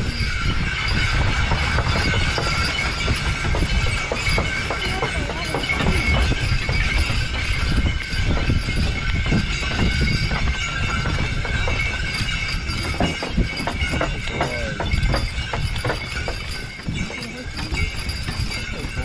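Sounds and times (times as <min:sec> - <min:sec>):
harness jingle bells ringing: 0:00.0 - 0:19.0
hooves clopping: 0:00.0 - 0:19.0
low rumble of moving sleigh: 0:00.0 - 0:19.0.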